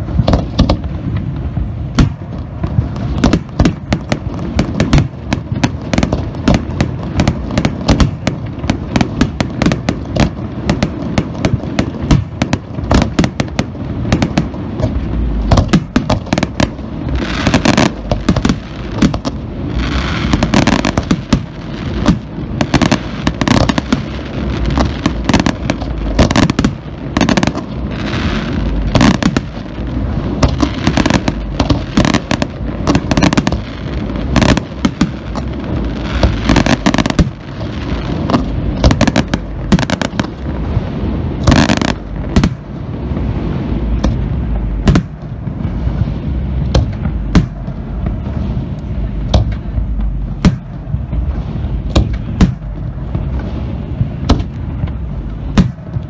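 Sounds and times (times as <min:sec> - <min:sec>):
continuous low rumble: 0:00.0 - 0:56.0
firework shells bursting with booms: 0:00.0 - 0:56.0
fireworks crackling: 0:00.0 - 0:56.0.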